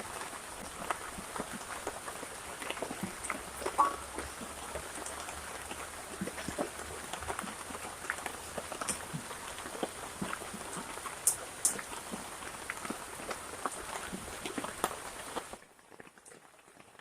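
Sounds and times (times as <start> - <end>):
heavy rain falling: 0.0 - 17.0
raindrops ticking on surfaces: 0.0 - 17.0.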